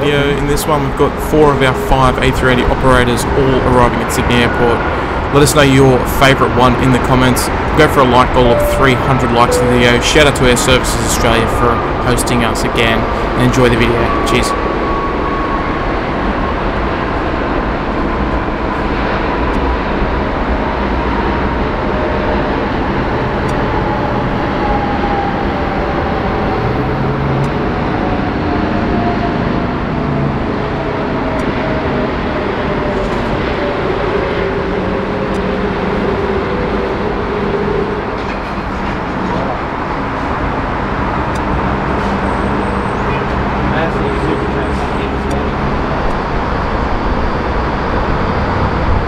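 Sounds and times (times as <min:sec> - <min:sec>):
jet engines rumbling: 0:00.0 - 0:49.0
jet engine whine falling in pitch: 0:06.9 - 0:49.0.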